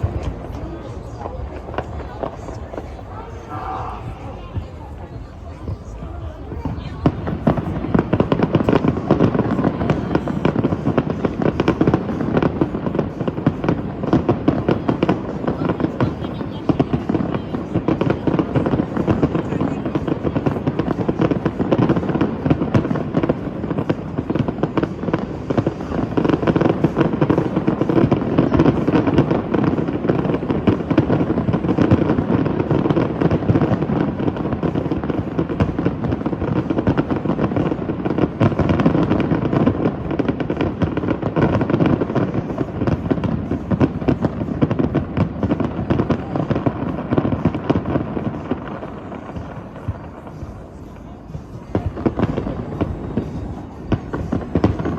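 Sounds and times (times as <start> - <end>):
fireworks bursts and crackle: 0.0 - 54.9.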